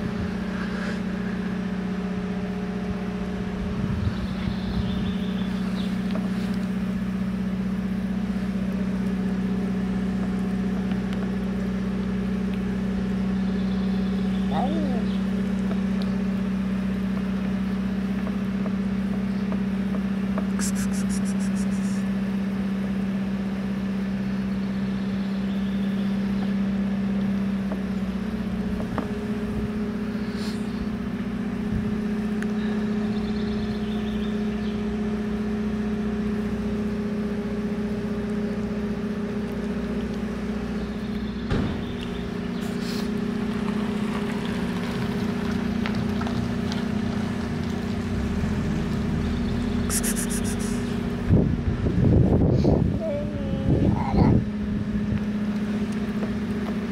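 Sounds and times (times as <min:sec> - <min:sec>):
low motor hum: 0:00.0 - 0:56.9.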